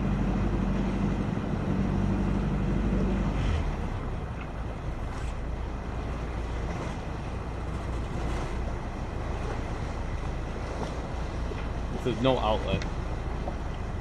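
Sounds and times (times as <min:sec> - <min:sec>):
water noise from boat: 0:00.0 - 0:14.0.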